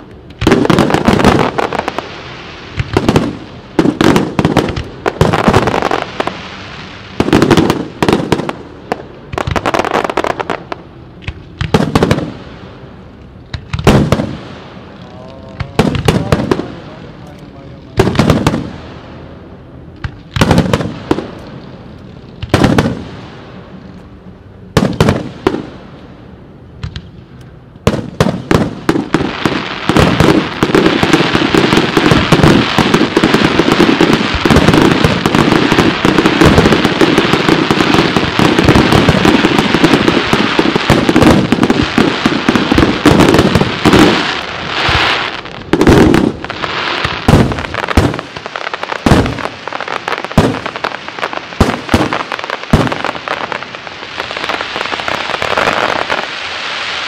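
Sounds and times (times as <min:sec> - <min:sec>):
firework bangs and crackling: 0:00.0 - 0:26.2, 0:26.8 - 0:57.0.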